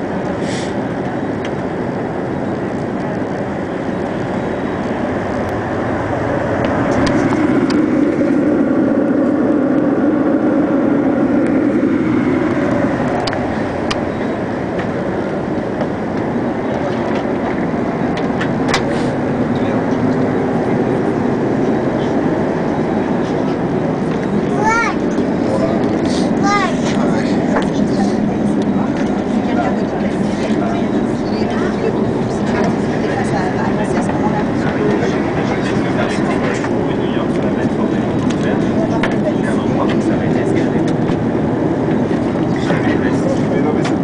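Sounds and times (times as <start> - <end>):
aircraft cabin engine rush: 0.0 - 44.0.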